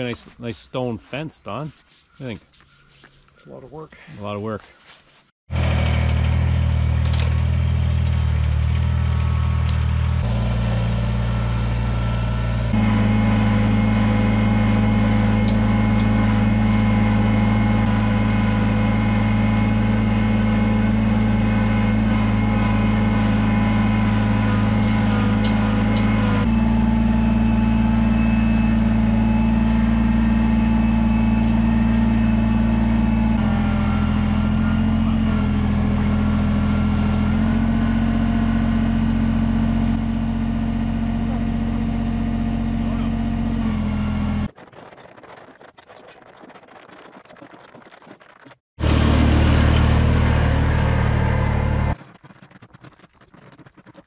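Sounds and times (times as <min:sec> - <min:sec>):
tractor engine running: 0:05.5 - 0:45.6, 0:48.8 - 0:53.9.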